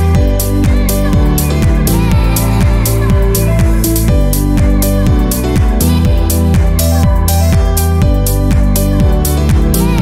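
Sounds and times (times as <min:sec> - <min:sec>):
electronic music with sliding bass: 0:00.0 - 0:10.0.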